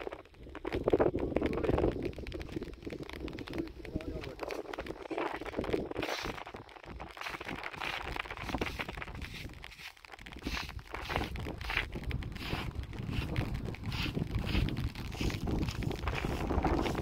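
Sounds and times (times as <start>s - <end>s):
wind rumbling on microphone: 0.0s - 17.0s
footsteps on stony soil: 0.5s - 17.0s.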